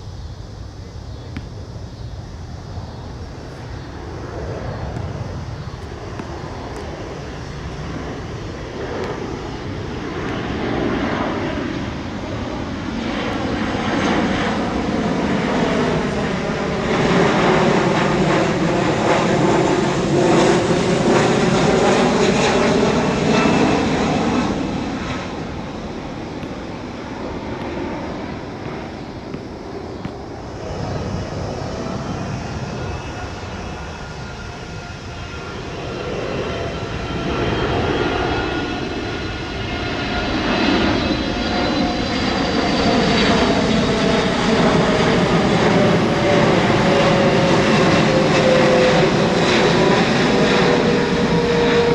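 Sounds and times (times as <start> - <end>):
jet engine roar overhead: 0.0 - 51.9
steady jet engine whine: 0.0 - 51.9.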